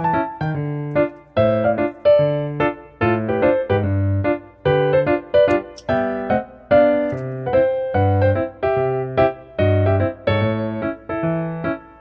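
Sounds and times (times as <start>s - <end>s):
bouncy keyboard music: 0.0s - 12.0s.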